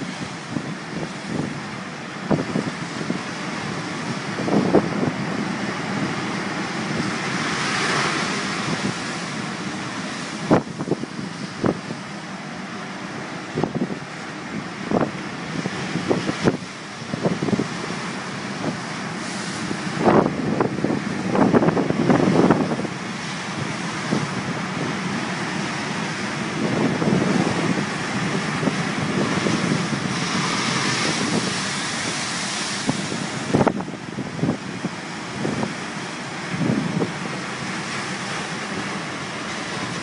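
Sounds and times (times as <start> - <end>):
sea waves breaking: 0.0 - 40.0
strong wind on microphone: 0.0 - 40.0
wind buffeting thumps: 0.0 - 40.0.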